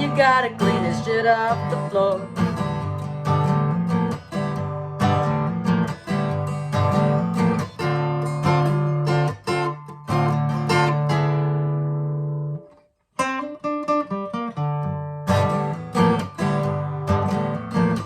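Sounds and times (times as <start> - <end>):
guitar strumming and picking: 0.0 - 18.0.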